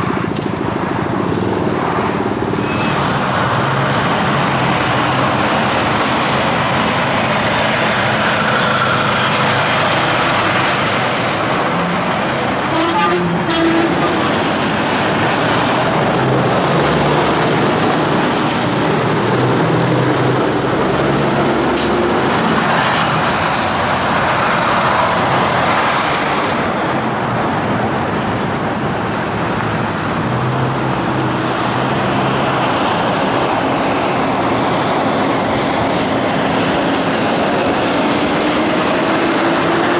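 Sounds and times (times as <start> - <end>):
diesel truck engines droning: 0.0 - 39.9.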